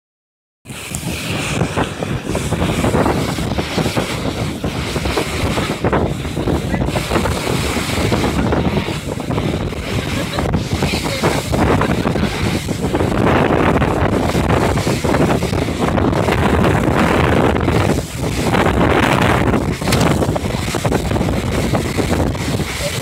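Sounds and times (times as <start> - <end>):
wind buffeting microphone: 0.6 - 23.0
water rushing along hull: 0.7 - 23.0.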